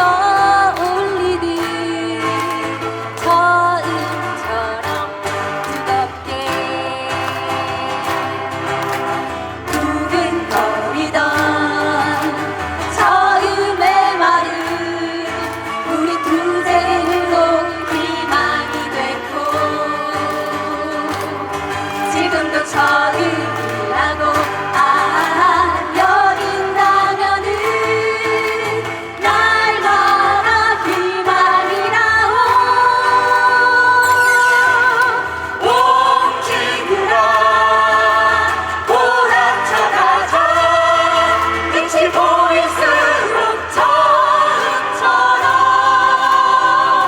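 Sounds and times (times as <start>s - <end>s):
guitar: 0.0s - 47.0s
keyboard: 0.0s - 47.0s
mixed choir singing: 0.0s - 47.0s.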